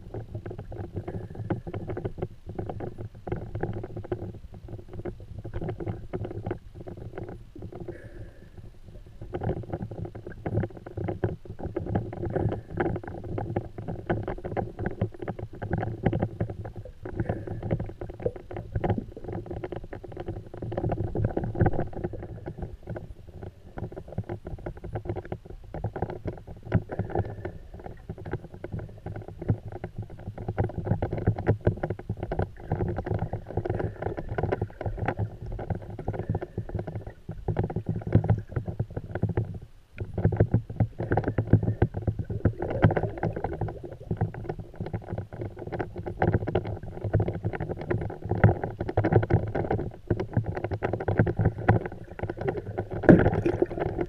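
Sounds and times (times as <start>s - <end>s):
small clicks and crackles: 0.0s - 54.0s
underwater water rumble: 0.0s - 54.0s.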